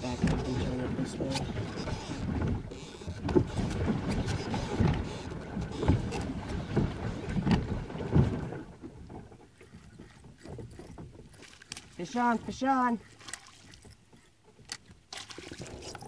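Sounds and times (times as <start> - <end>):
faint water lapping: 0.0 - 16.0
paddle wheel splashing water: 0.0 - 16.0.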